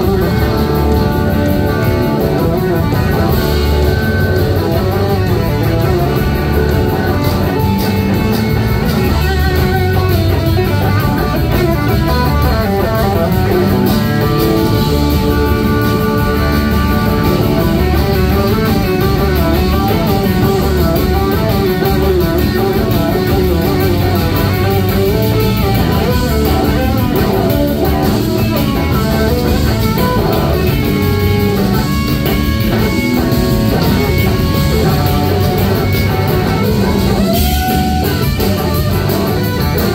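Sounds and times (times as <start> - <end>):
electric guitar bending lead: 0.0 - 39.9
live rock band playing: 0.0 - 39.9.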